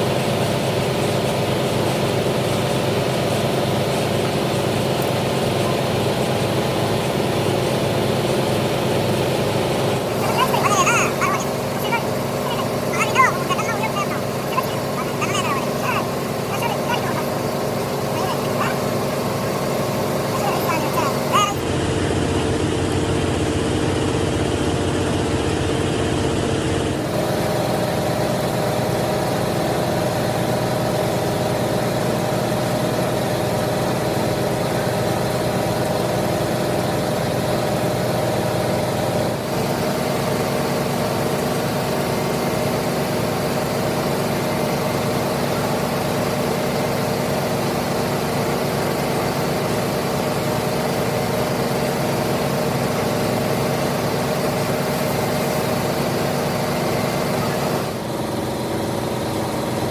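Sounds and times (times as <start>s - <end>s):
workshop machine humming: 0.0s - 59.9s.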